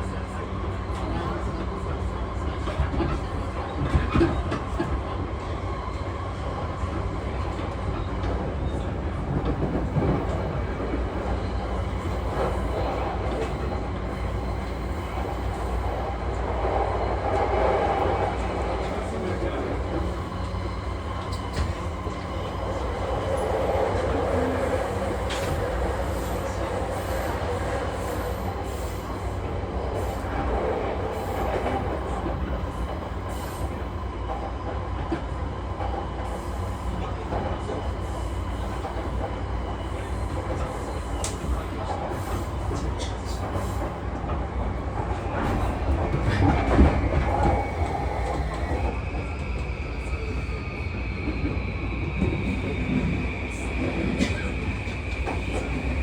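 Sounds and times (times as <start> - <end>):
train wheels rumbling on rails: 0.0 - 56.0
rail joint clicks: 6.7 - 50.4, 51.3 - 56.0.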